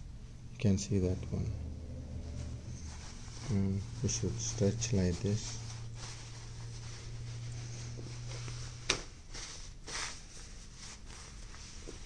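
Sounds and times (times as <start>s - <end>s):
low steady hum: 0.0s - 12.0s
fabric rustling: 1.9s - 12.0s.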